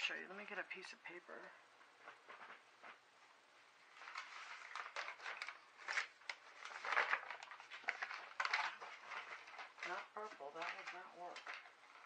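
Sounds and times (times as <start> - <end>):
paper rustling and shuffling: 1.4 - 3.1, 3.7 - 12.0.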